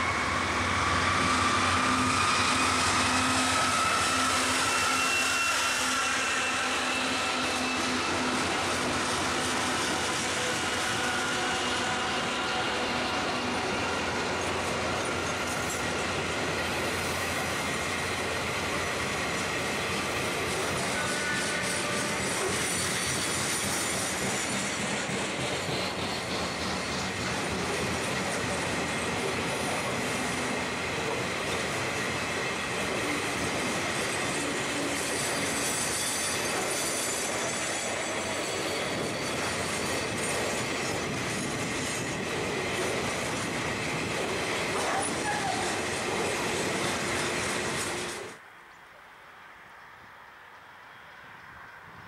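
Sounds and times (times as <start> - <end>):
high wheel squeal: 0.0 - 48.4
train wagons rolling on rails: 0.0 - 48.5.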